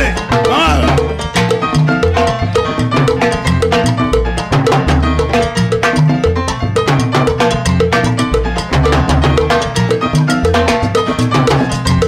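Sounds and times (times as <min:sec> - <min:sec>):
salsa band playing: 0:00.0 - 0:12.0.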